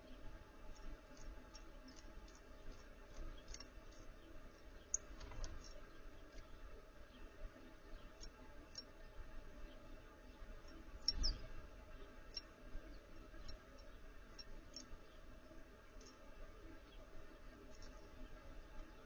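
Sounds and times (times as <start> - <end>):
small birds ticking and chipping: 0.0 - 19.0.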